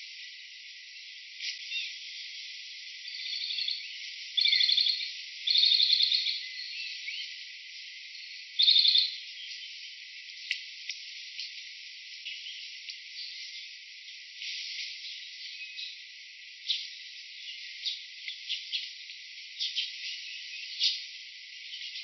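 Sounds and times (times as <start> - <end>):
faint steady hiss: 0.0 - 22.0
insect trills: 0.0 - 22.0.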